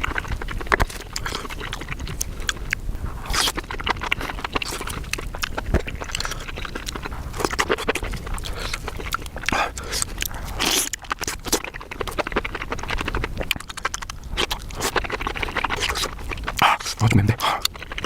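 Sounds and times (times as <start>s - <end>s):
close chewing with crackles: 0.0s - 18.0s.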